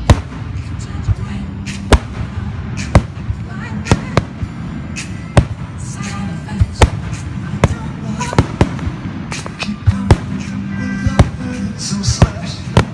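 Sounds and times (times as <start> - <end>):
fireworks bangs: 0.0 - 12.9
fireworks crackle: 0.0 - 12.9.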